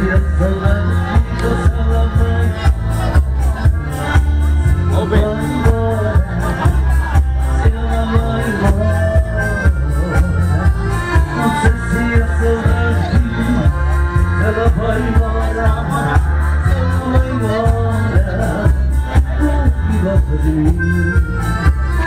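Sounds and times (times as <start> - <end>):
upbeat music with bass beat: 0.0 - 22.0.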